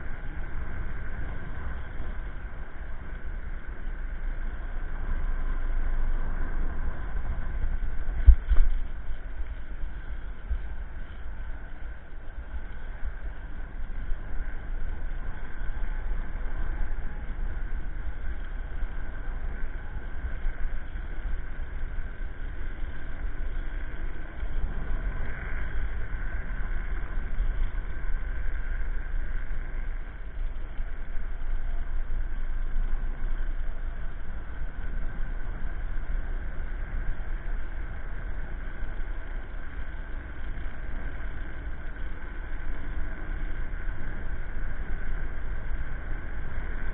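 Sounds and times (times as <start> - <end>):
high motor whine: 0.0 - 46.9
tyre road noise: 0.0 - 46.9
wind buffeting microphone: 0.0 - 46.9.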